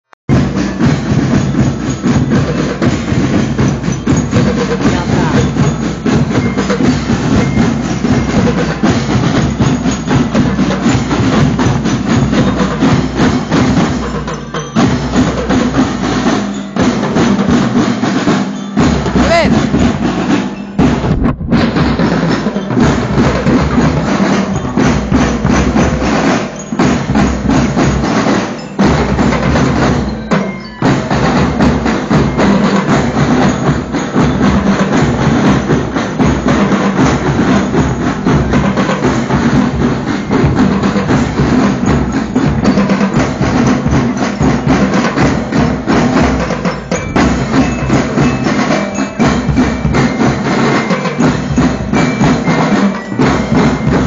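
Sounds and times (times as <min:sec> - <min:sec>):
marching drum band: 0:00.3 - 0:54.0.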